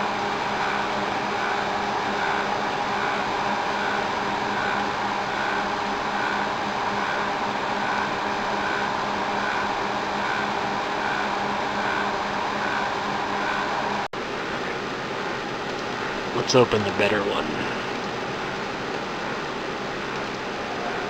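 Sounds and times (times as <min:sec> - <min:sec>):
cooling fan rush: 0:00.0 - 0:21.0
low hum: 0:00.0 - 0:21.0.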